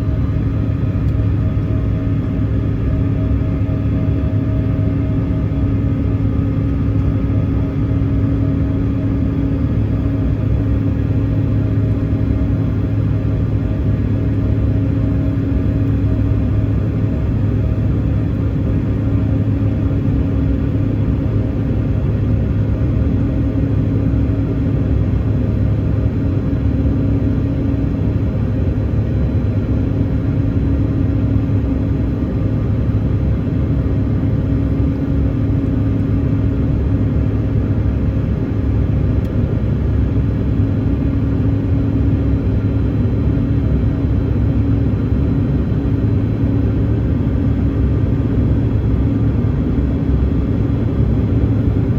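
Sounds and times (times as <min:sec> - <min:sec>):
constant low hum: 0:00.0 - 0:51.9
jet engines droning: 0:00.0 - 0:51.9.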